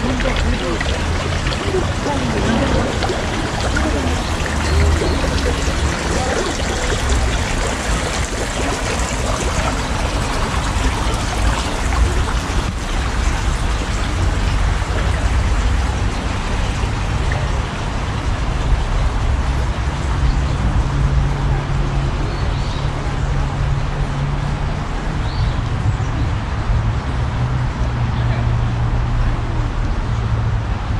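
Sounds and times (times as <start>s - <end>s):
stream trickling: 0.0s - 25.8s.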